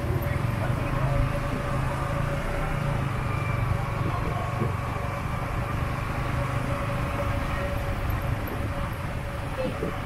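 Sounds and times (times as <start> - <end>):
motorbike running at low speed: 0.0 - 10.0.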